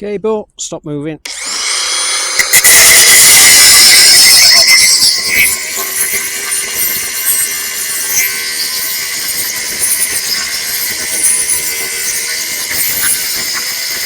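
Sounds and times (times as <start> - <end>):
angle grinder cutting metal: 1.3 - 14.0.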